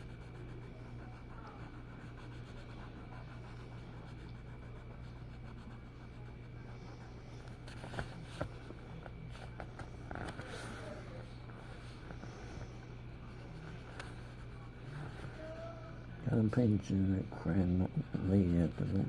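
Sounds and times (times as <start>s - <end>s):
low electrical hum: 0.0s - 19.0s
scratching strokes on paper: 0.0s - 19.0s.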